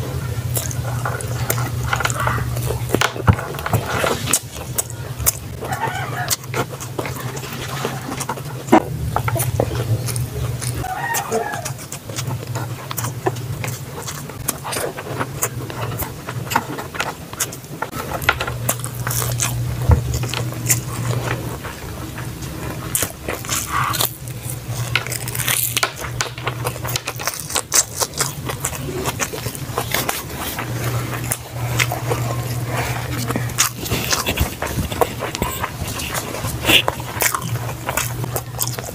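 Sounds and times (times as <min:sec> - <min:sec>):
person chewing and lip smacking: 0:00.0 - 0:38.9
steady low hum: 0:00.0 - 0:38.9.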